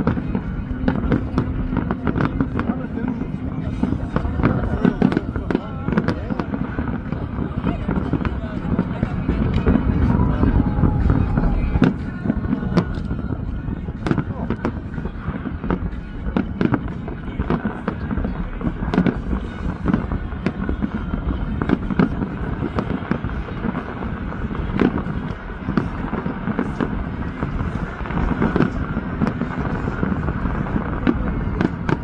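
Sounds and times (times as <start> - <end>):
continuous rumble: 0.0 - 32.0
fireworks bangs and crackles: 0.0 - 32.0.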